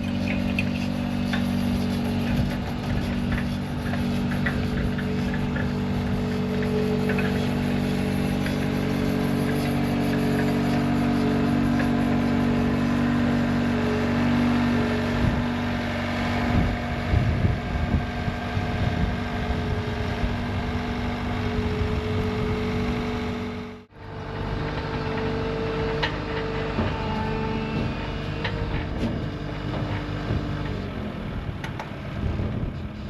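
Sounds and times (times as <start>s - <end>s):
vehicle engine idling: 0.0s - 27.1s.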